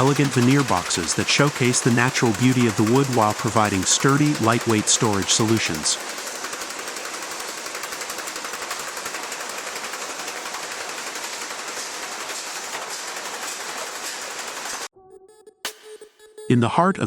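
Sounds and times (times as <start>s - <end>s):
wood machinery rattling: 0.0s - 14.9s.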